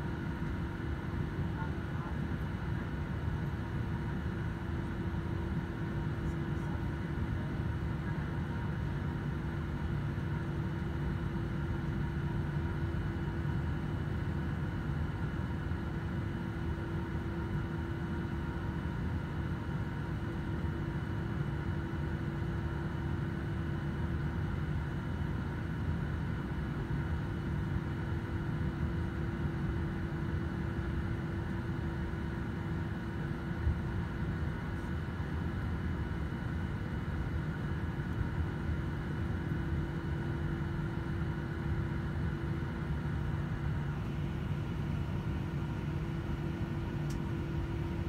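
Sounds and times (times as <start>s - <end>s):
jet engines idling rumble: 0.0s - 48.0s.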